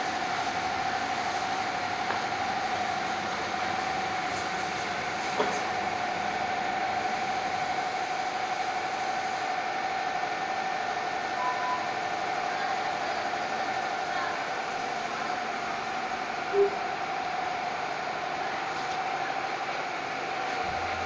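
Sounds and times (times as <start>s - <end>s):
machine hissing with steady whine: 0.0s - 21.0s.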